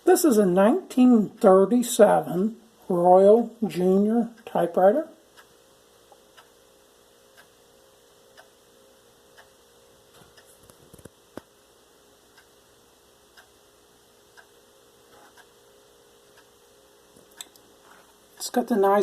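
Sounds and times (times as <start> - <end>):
faint steady hum: 0.0 - 19.0
clock ticking: 0.3 - 10.6, 12.2 - 19.0.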